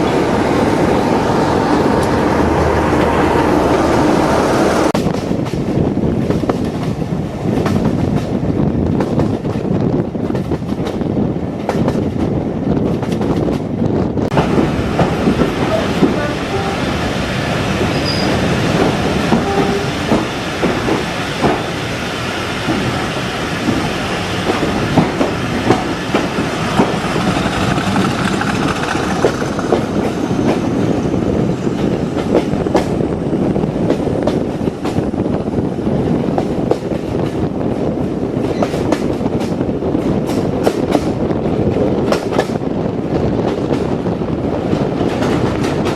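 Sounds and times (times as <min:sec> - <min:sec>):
train wheels clicking over rail joints: 0:04.9 - 0:16.7, 0:17.6 - 0:35.3, 0:36.2 - 0:45.9.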